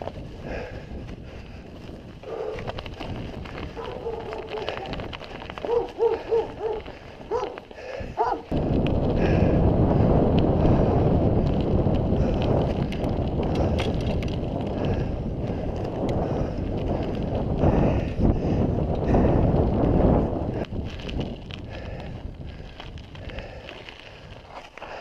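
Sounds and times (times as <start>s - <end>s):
bike tyre rumble: 0.0s - 25.0s
wind buffeting microphone: 0.0s - 25.0s.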